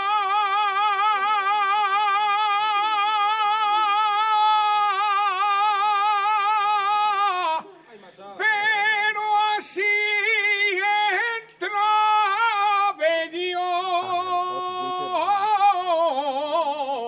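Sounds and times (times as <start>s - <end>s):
man singing in high register: 0.0s - 7.6s, 8.4s - 17.0s.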